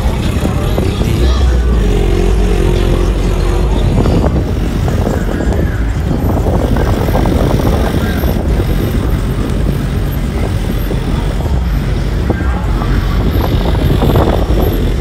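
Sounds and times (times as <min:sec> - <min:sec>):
car engines rumbling: 0:00.0 - 0:15.0.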